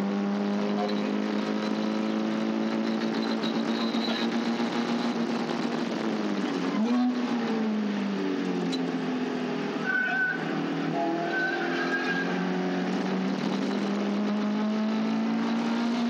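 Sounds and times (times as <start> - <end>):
race car engine revving high: 0.0 - 16.0
wind and road noise: 0.0 - 16.0.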